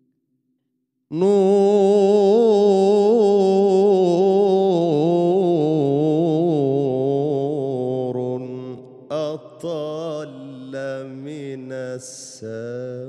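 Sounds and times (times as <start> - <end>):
man singing devotional chant: 1.1 - 13.0.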